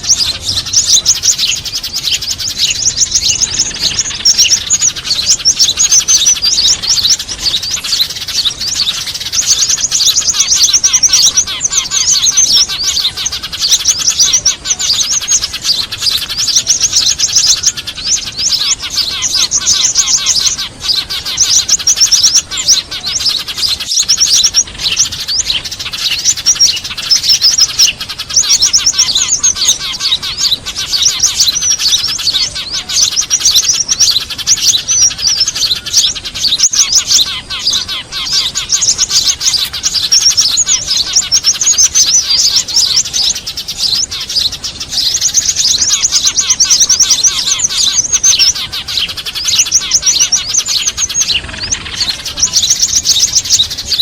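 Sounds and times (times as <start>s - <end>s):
small birds chattering: 0.0s - 54.0s.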